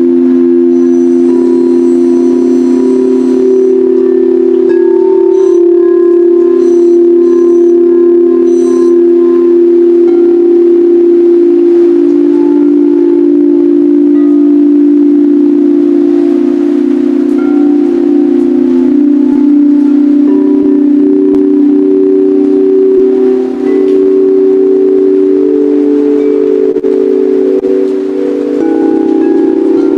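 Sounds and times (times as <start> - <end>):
sound bowls ringing: 0.0 - 29.9.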